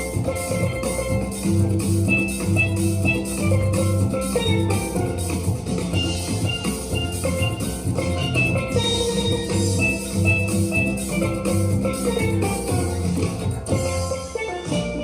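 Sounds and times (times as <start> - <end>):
bass pan notes: 0.0 - 15.0
drum beat: 0.0 - 15.0
steel pans playing: 0.0 - 15.0.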